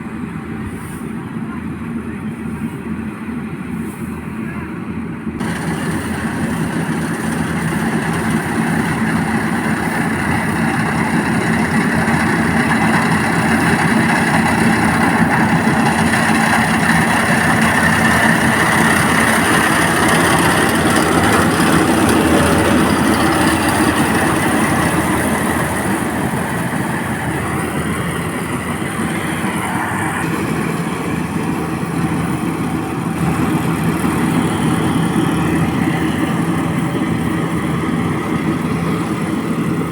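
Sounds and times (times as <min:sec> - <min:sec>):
harvesting machine engine running: 0:05.4 - 0:39.9.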